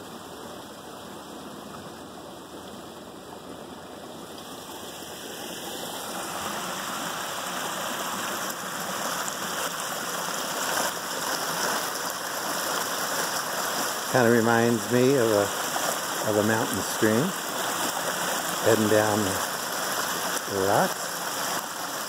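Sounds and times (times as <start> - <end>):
waterfall splashing over rocks: 0.0 - 22.0.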